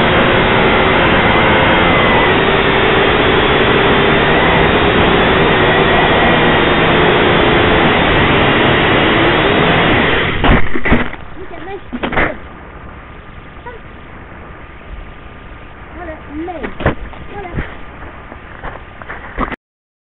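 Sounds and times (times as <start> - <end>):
drone propellers whining: 0.0 - 19.4.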